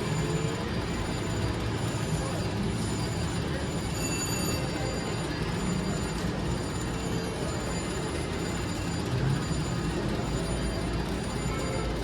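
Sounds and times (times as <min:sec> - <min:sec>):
electronic machine tones: 0:00.0 - 0:12.0
slot machine noise: 0:00.0 - 0:12.0.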